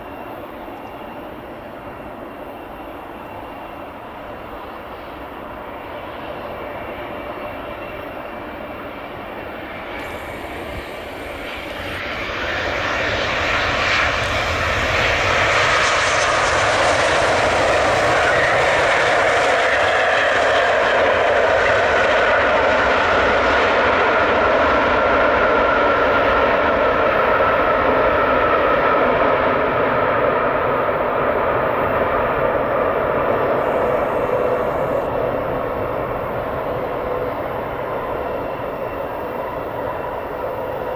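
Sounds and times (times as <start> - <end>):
jet engines of landing airliner: 0.0 - 40.9.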